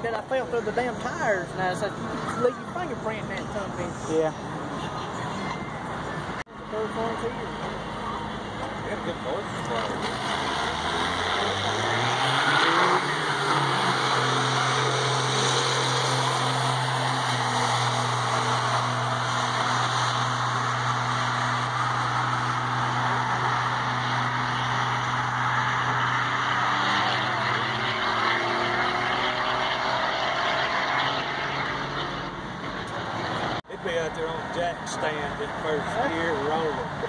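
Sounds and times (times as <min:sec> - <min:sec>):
diesel trucks racing: 0:00.0 - 0:37.0.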